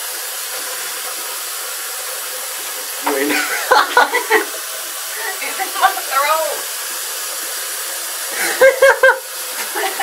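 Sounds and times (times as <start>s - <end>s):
tap running into sink: 0.0s - 8.3s, 9.0s - 10.0s.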